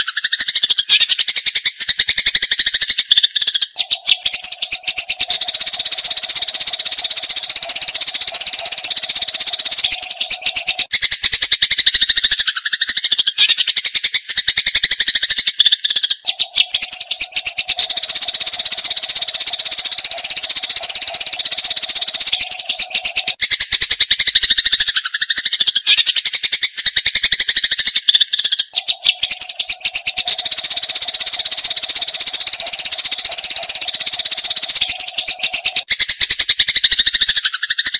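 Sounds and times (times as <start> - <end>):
sparrows chattering: 0.0 - 37.9.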